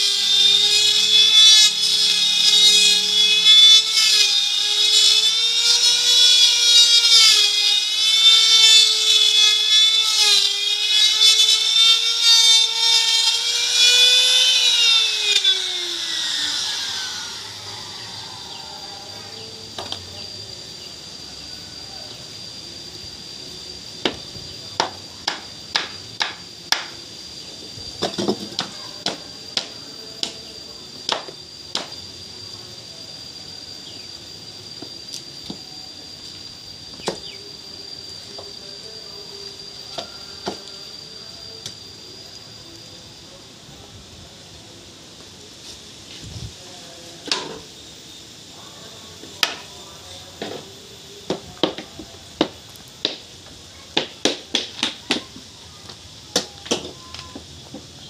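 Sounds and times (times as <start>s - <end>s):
high-pitched whine: 0.0s - 58.0s.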